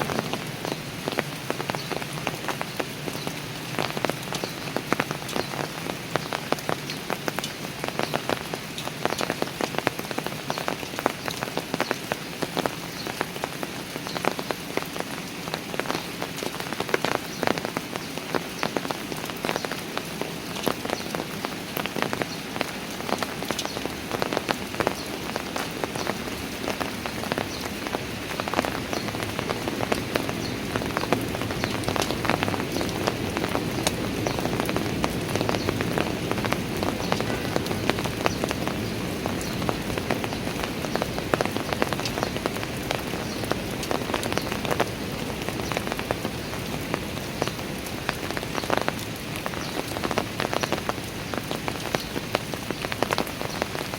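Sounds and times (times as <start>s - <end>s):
rain falling on stairs: 0.0s - 53.9s.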